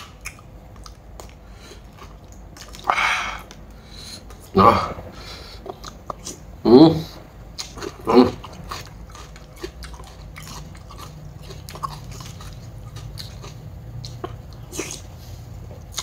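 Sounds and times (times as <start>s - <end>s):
person chewing food: 0.0s - 4.6s, 5.6s - 6.5s, 7.2s - 16.0s.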